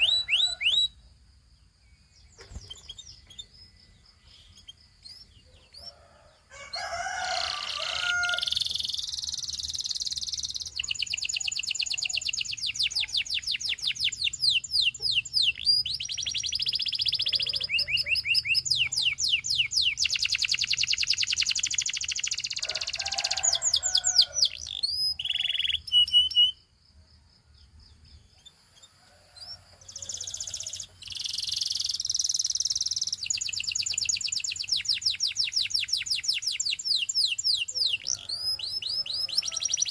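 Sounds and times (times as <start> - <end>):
canary singing trills: 0.0 - 1.0, 1.7 - 26.8, 27.6 - 39.9.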